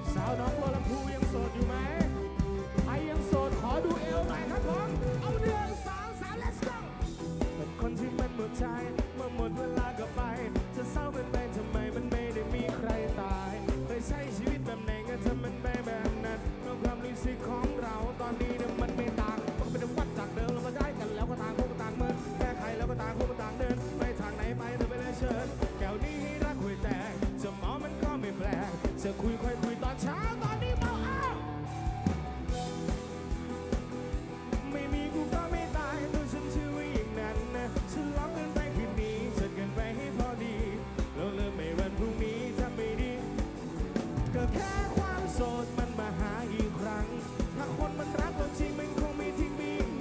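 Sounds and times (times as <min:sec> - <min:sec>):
person singing: 0:00.0 - 0:33.0, 0:34.3 - 0:50.0
guitars: 0:00.0 - 0:50.0
live rock band: 0:00.0 - 0:50.0
steady drum beat: 0:00.0 - 0:50.0.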